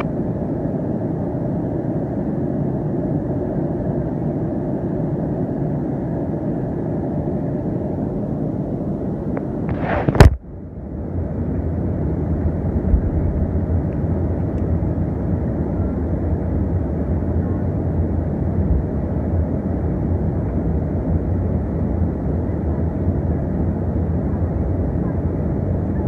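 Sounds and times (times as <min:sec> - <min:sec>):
airplane engine rumble: 0:00.0 - 0:26.0.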